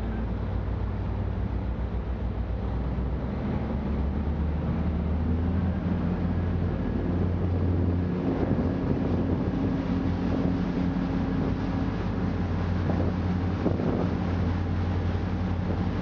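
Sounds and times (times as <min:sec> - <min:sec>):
boat engine running: 0:00.0 - 0:16.0
water noise: 0:00.0 - 0:16.0
wind: 0:00.0 - 0:16.0.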